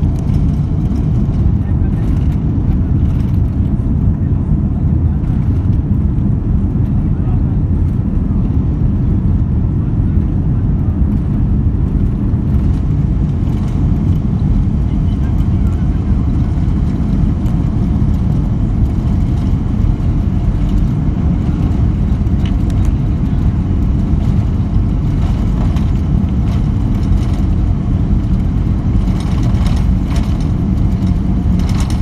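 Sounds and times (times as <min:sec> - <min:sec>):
airplane cabin low rumble: 0:00.0 - 0:32.0.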